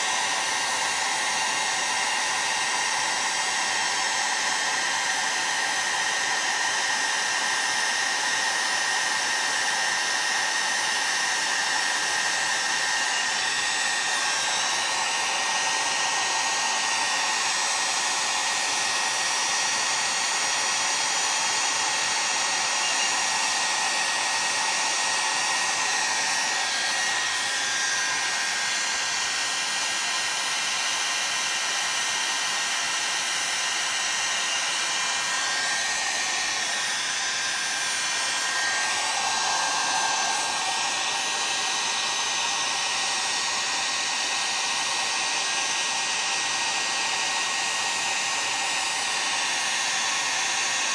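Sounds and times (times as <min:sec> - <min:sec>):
heat gun blowing: 0:00.0 - 0:50.9.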